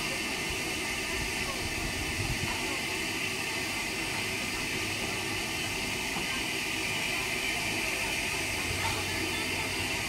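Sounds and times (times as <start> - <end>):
steam hissing: 0.0 - 10.0.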